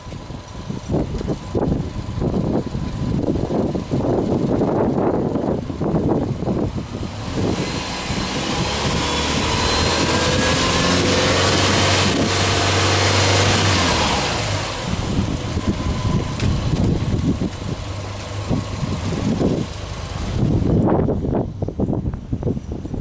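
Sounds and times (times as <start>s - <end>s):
car engine revving: 1.5s - 21.2s.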